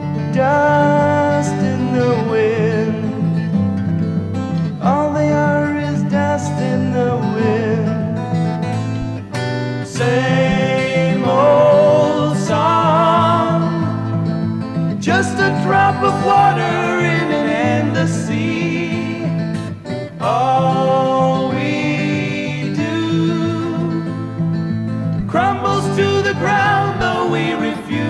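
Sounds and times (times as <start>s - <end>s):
guitar accompaniment: 0.0s - 28.0s
person singing: 0.2s - 3.4s, 4.8s - 8.0s, 9.8s - 14.3s, 15.0s - 24.4s, 25.2s - 28.0s.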